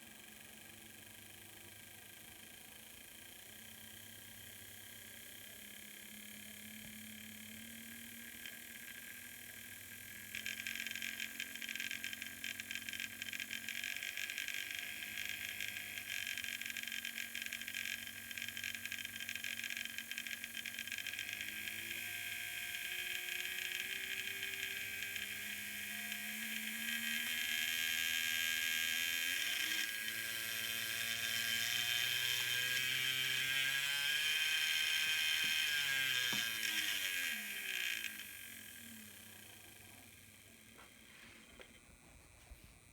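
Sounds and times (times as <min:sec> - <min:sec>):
model locomotive motor whining: 0:00.2 - 0:42.7.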